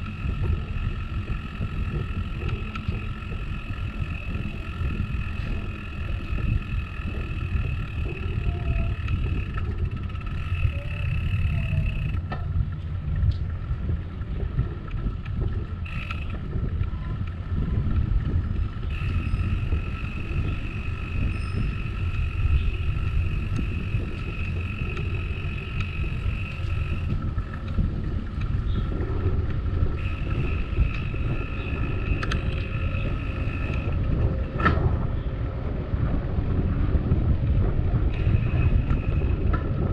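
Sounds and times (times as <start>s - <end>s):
tyres on concrete path: 0.0s - 39.9s
wind on microphone: 0.0s - 39.9s.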